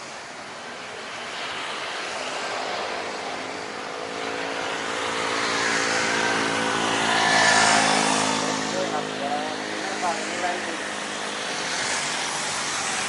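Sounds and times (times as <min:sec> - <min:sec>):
high engine whine: 0:00.0 - 0:13.0
jet airliner engines hum: 0:00.0 - 0:13.0.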